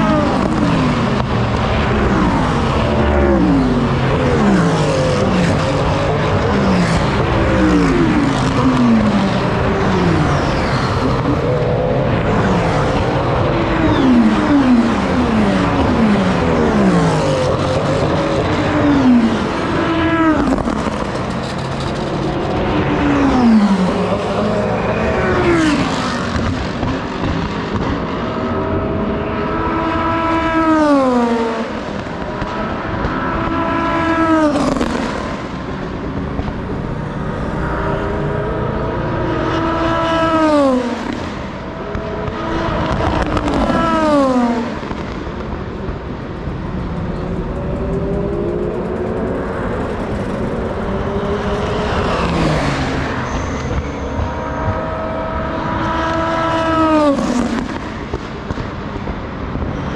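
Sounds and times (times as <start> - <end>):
cars on track: 0.0 - 59.9
race cars passing at speed: 0.0 - 59.9.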